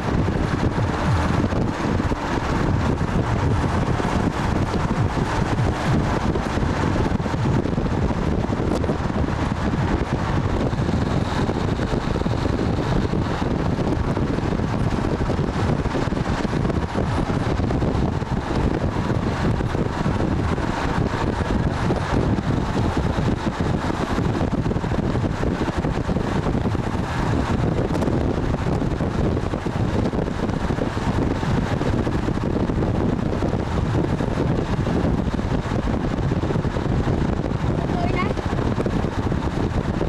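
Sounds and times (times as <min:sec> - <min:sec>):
moving vehicle noise: 0:00.0 - 0:40.0
wind on microphone: 0:00.0 - 0:40.0.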